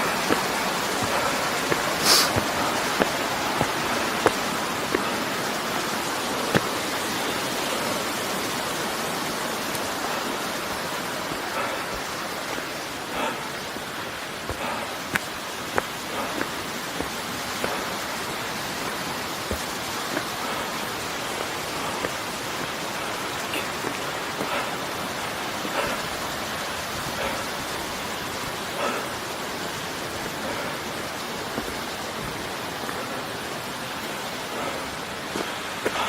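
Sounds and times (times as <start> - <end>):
faint footsteps: 0.0 - 24.9, 28.8 - 36.0
flowing water rushing: 0.0 - 36.0.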